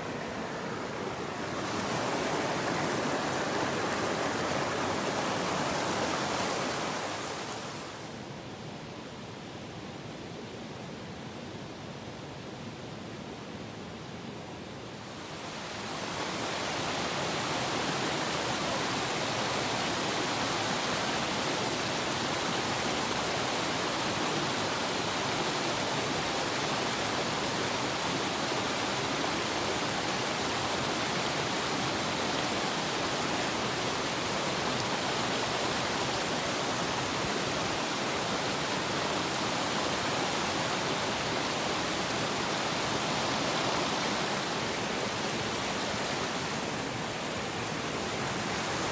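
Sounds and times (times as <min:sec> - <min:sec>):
stream water rushing over rocks: 0:00.0 - 0:08.6, 0:14.7 - 0:48.9.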